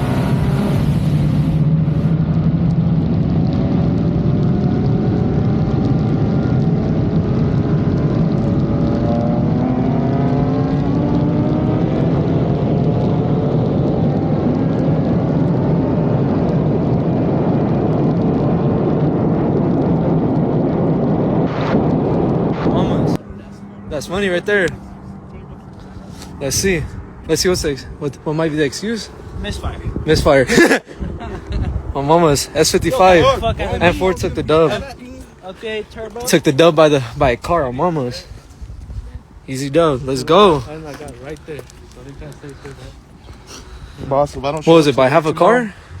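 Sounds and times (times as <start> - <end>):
race car engines at full throttle: 0.0 - 46.0
road and wind noise: 0.0 - 46.0.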